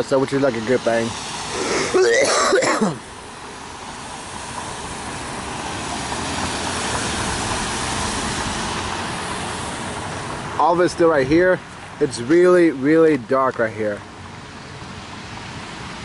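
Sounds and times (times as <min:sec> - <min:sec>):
car tyres hissing on wet road: 0:00.0 - 0:12.8, 0:14.1 - 0:16.0.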